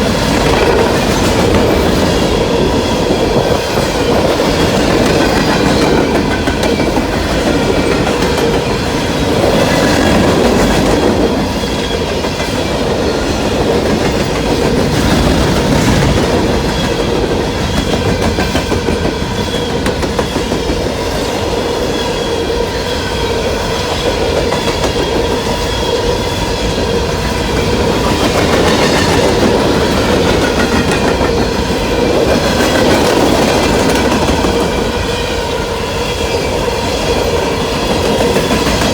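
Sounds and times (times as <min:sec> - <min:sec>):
freight train wheels rolling: 0:00.0 - 0:38.9.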